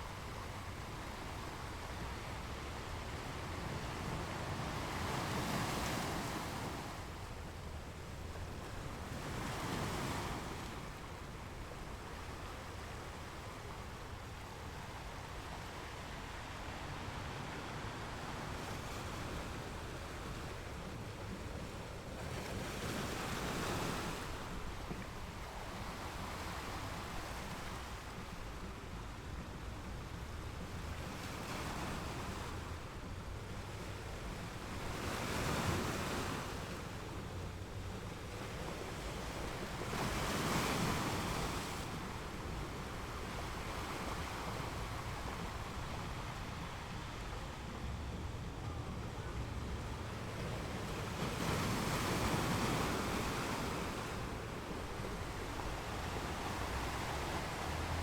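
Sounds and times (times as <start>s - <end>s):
waves washing in: 0.0s - 58.0s.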